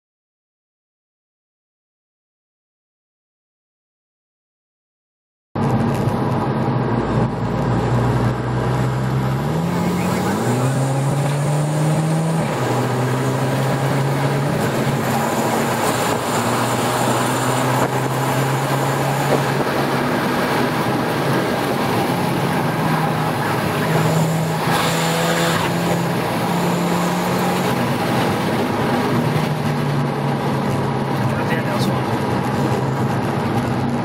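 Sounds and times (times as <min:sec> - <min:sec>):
car engine from inside cabin: 0:05.6 - 0:34.0
tyre and road noise: 0:05.6 - 0:34.0.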